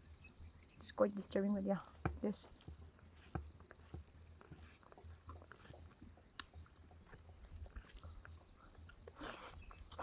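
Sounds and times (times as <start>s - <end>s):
quiet chewing: 1.8s - 10.0s.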